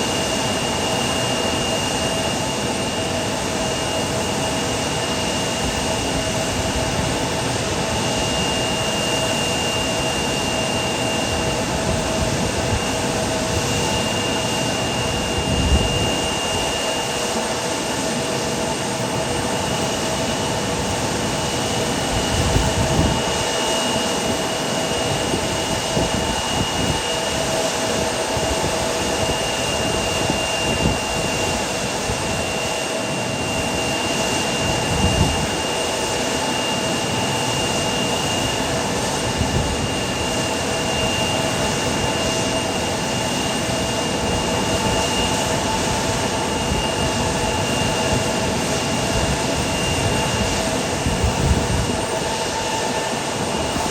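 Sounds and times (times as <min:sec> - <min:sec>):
aircraft turbine engines: 0:00.0 - 0:53.9.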